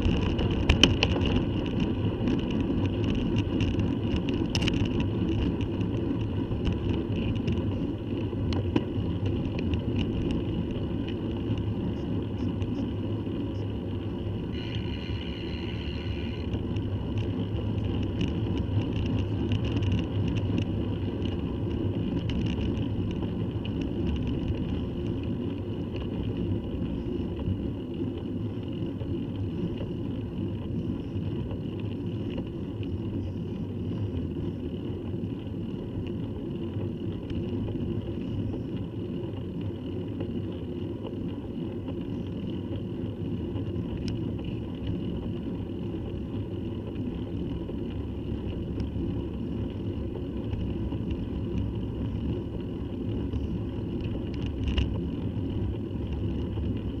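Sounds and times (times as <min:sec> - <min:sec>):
bicycle tyre and road noise: 0:00.0 - 0:57.0.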